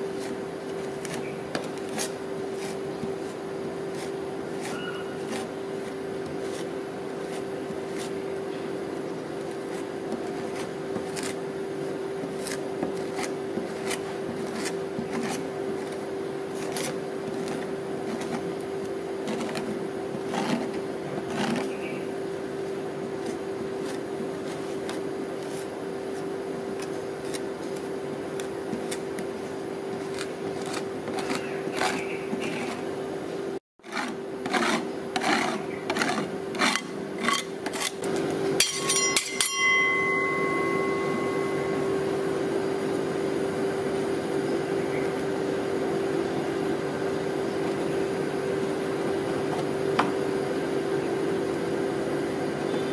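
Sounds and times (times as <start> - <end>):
machine humming: 0.0 - 52.9.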